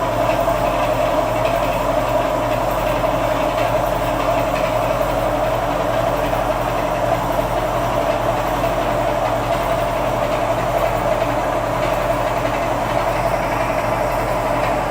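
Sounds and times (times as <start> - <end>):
generator humming and whirring: 0.0 - 14.9.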